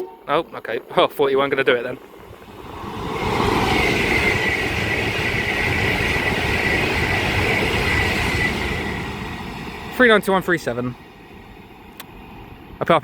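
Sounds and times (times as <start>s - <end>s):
electric train passing at speed: 0.0s - 13.0s
high whine: 0.0s - 13.0s.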